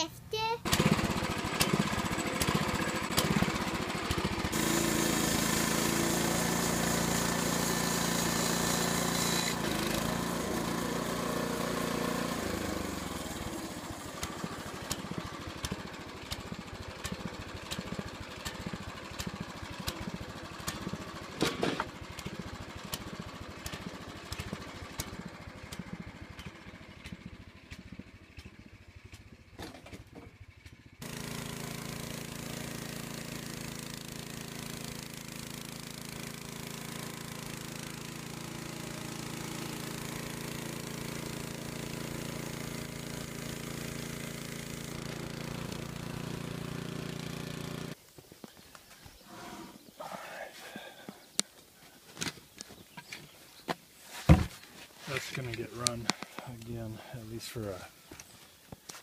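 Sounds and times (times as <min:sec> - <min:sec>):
small gasoline engine running: 0:00.6 - 0:48.0.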